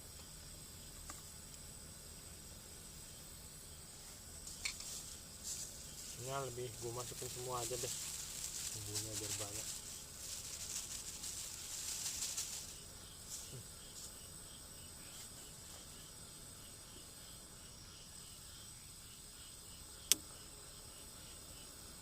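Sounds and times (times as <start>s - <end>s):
crackling hiss: 0.0s - 22.0s
insect chirp: 0.0s - 22.0s
insects buzzing: 0.0s - 22.0s.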